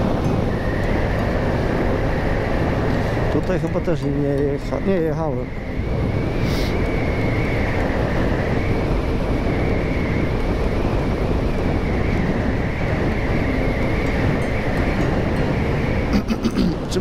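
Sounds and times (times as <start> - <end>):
faint high whine: 0.0 - 17.0
road and wind noise: 0.0 - 17.0.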